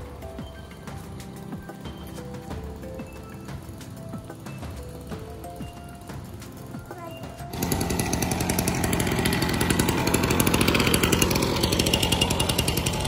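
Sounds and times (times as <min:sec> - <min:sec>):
two-stroke engine buzzing: 0:00.0 - 0:13.0.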